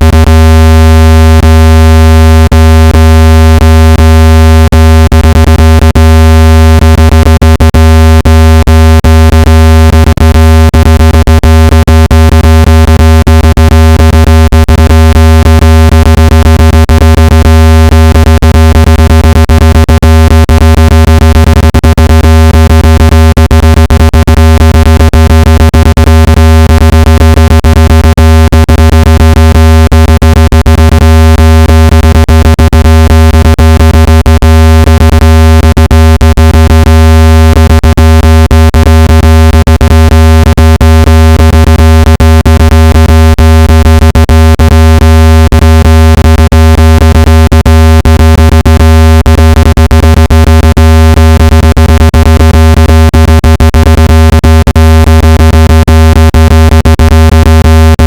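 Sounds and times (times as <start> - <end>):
low buzzing speaker tone: 0.0 - 55.5, 56.8 - 58.0.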